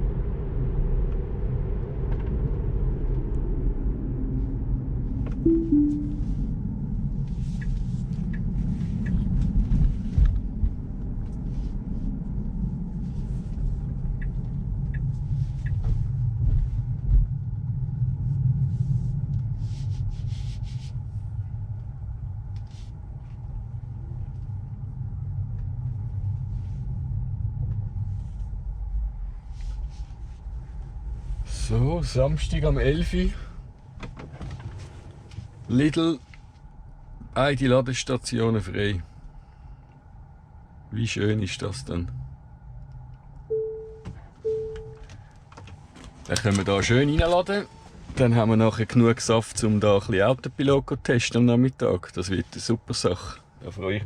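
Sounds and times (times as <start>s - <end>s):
road and tyre noise: 6.2s - 50.9s.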